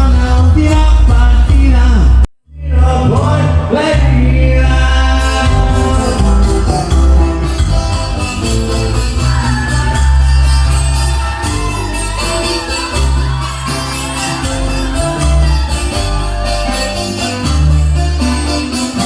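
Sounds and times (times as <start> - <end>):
live band playing latin music: 0.0 - 19.0.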